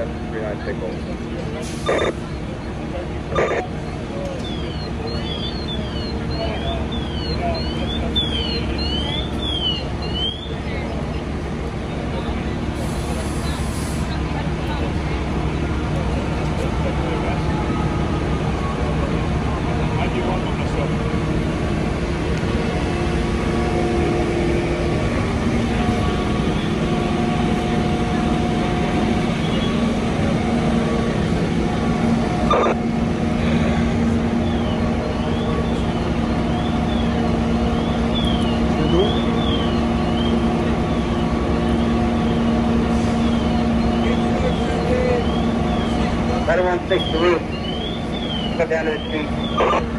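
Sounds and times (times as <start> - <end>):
diesel engines idling: 0.0 - 49.9.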